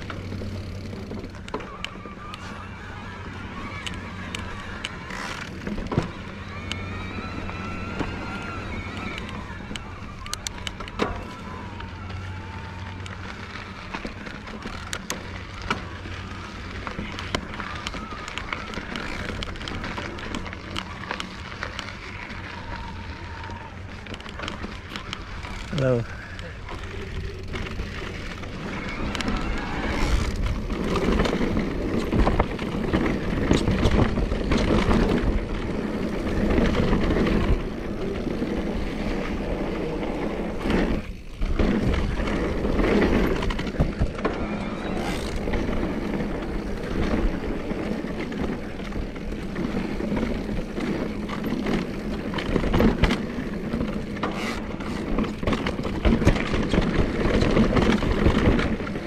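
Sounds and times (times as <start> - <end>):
bike rattles and clicks: 0.0 - 59.0
bike tyres rolling over dirt: 0.0 - 59.0.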